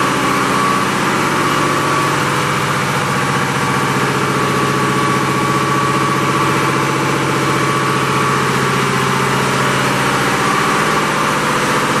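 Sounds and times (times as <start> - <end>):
engine room machinery drone: 0.0 - 12.0
high machinery whine: 0.0 - 12.0.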